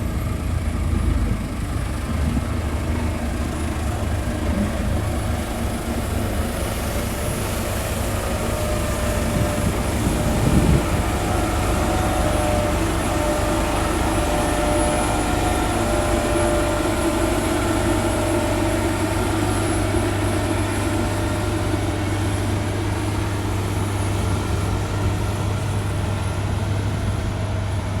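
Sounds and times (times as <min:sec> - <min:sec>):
heavy diesel engine humming: 0:00.0 - 0:28.0
wavering whine: 0:00.0 - 0:28.0.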